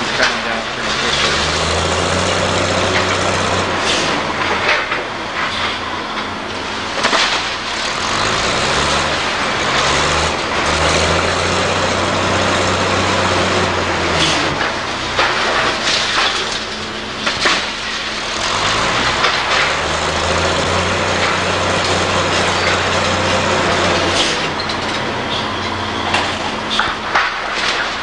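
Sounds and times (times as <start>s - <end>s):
debris cracking and crunching: 0.0s - 28.0s
diesel engine labouring: 0.0s - 28.0s.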